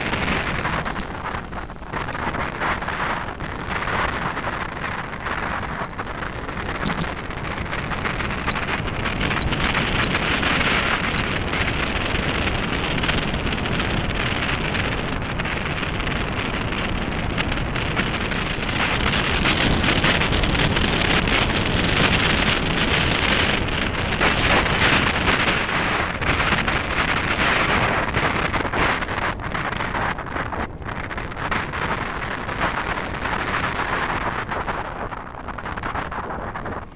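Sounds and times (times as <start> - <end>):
tyres rolling on gravel: 0.0 - 34.7
stones and bike rattling: 0.0 - 36.9
wind buffeting microphone: 0.0 - 36.9.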